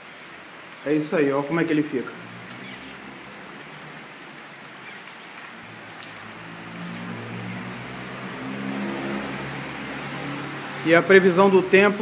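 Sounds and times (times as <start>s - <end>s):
river rushing in flood: 0.0s - 12.0s.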